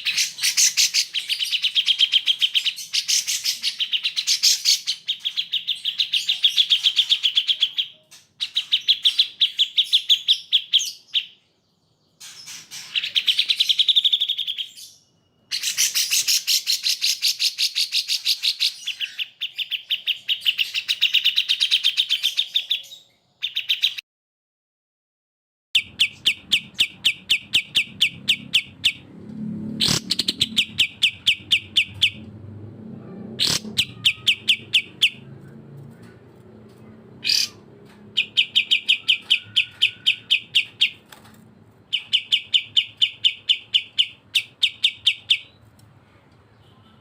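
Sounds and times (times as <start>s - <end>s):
songbird chirping: 0.0s - 24.0s, 25.8s - 47.0s.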